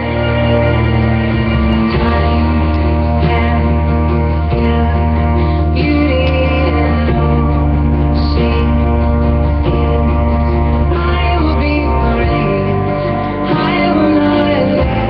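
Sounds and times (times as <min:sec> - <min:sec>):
person singing: 0:00.0 - 0:15.0
pop ballad accompaniment: 0:00.0 - 0:15.0
sustained low bass notes: 0:00.0 - 0:15.0.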